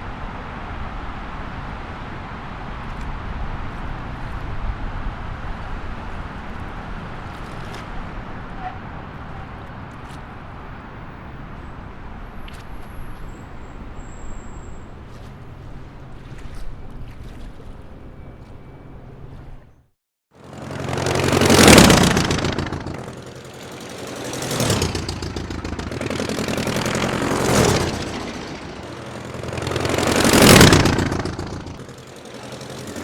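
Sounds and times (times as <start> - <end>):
passing vehicles rumble: 0.0 - 33.0.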